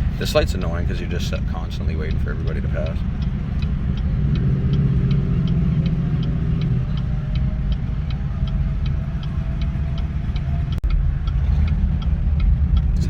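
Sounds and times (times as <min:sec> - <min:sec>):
car engine idling: 0:00.0 - 0:13.0
turn signal ticking: 0:00.0 - 0:13.0.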